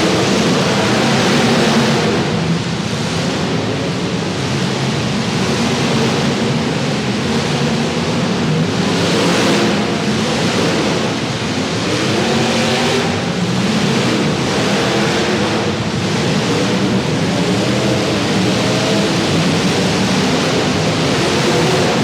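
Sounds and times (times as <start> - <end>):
car engines running loud: 0.0 - 22.0.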